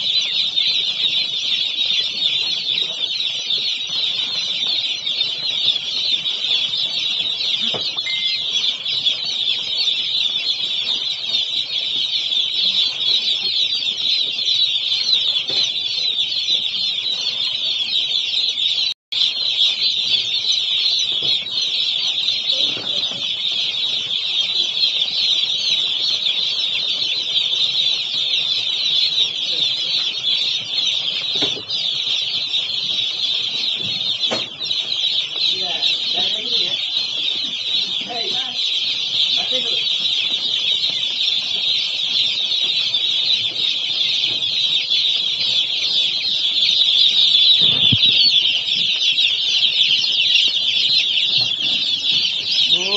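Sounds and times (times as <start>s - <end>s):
chicks peeping: 0.0s - 52.9s.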